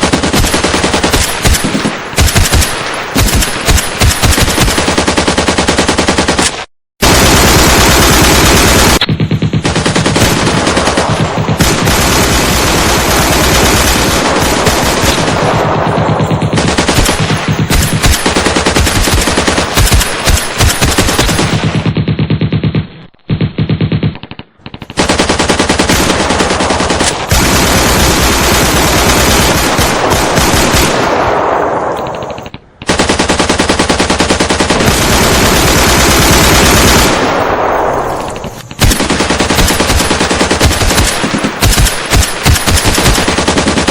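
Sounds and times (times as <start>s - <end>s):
automatic gunfire bursts: 0.0s - 22.8s, 23.4s - 31.4s, 32.1s - 43.9s.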